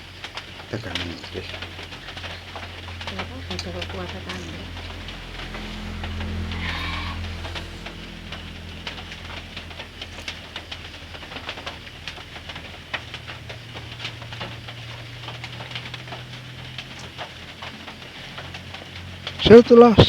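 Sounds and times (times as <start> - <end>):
faint low hum: 0.0 - 17.7
juice dripping into water: 0.0 - 20.0.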